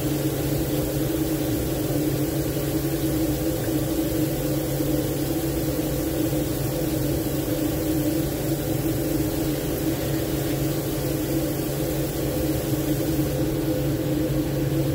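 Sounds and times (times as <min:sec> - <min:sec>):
machinery humming: 0:02.9 - 0:14.9.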